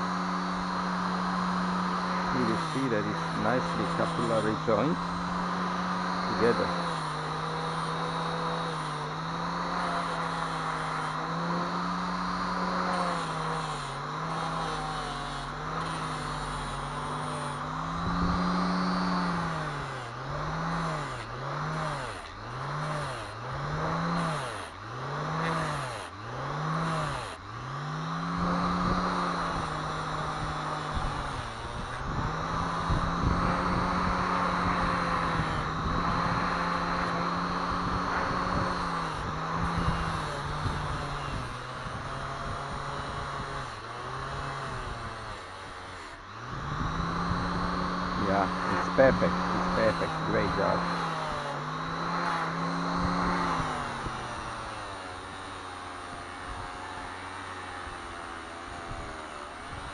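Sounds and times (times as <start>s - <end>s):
power tool motor humming: 0.0s - 59.9s.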